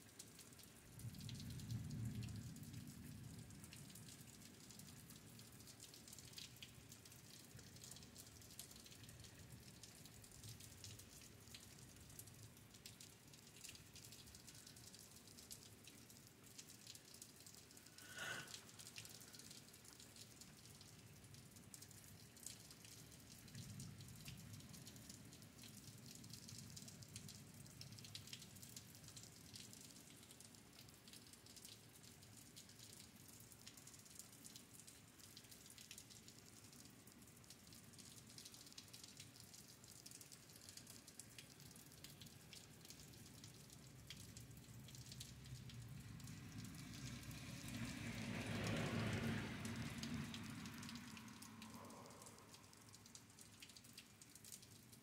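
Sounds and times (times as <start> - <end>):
light rain pattering: 0.0 - 55.0.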